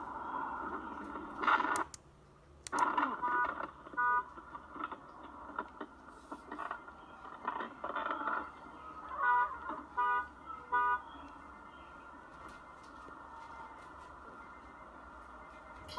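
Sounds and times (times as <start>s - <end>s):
road noise inside car: 0.0s - 15.9s.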